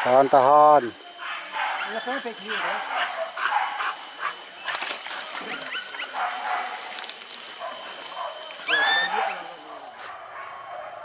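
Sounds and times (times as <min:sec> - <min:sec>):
dogs barking: 0:01.2 - 0:04.8, 0:05.4 - 0:11.0
dogs whining: 0:01.2 - 0:06.9, 0:07.5 - 0:11.0.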